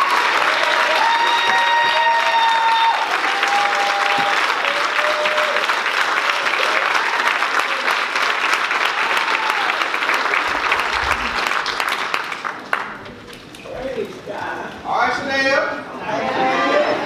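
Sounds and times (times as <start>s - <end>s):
crowd applauding: 0.0s - 14.2s.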